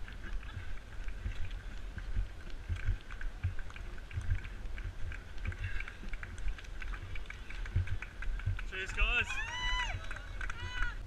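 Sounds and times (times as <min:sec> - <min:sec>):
low thumps from running stride: 0:00.0 - 0:09.4
wind buffeting microphone: 0:00.0 - 0:11.0.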